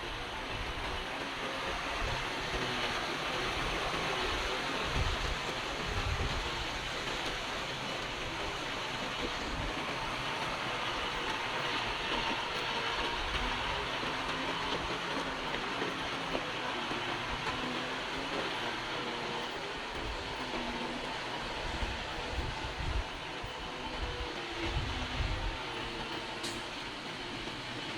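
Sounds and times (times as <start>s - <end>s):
steel tracks clanking: 0.0s - 27.9s.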